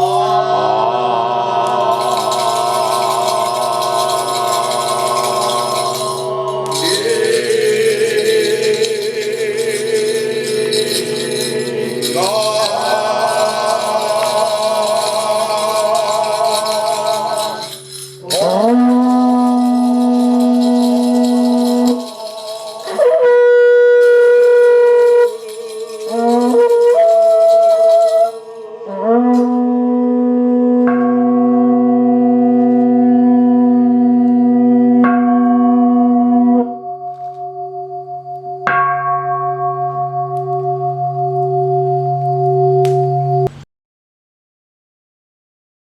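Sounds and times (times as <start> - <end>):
wind instrument long notes: 0.0 - 37.6
low drone: 0.0 - 38.7.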